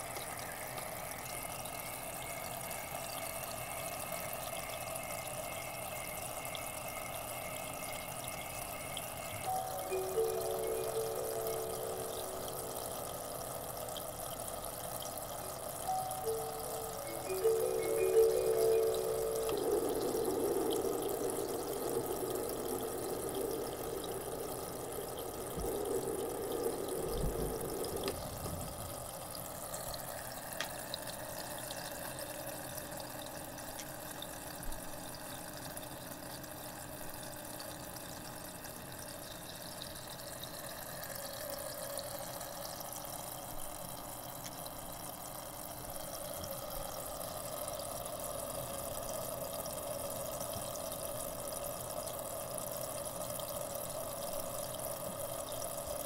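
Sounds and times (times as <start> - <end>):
recorded running water hiss: 0.0 - 56.0.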